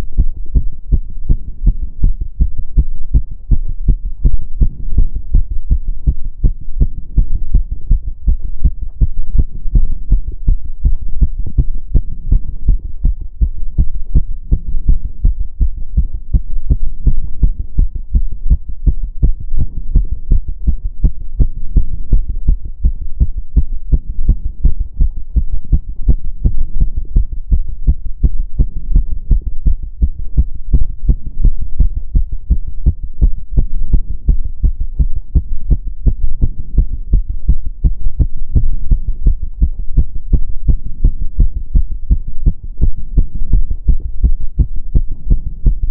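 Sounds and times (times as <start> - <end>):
heart beating fast: 0.0 - 45.9.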